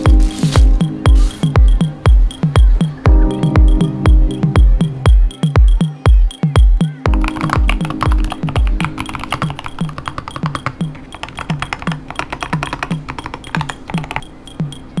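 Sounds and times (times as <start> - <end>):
electronic music with kick beat: 0.0 - 15.0
rapid keyboard typing: 0.0 - 15.0.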